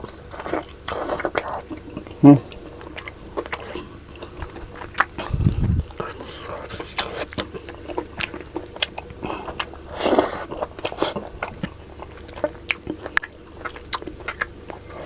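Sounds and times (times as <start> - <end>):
wet chewing mouth clicks: 0.0 - 15.0.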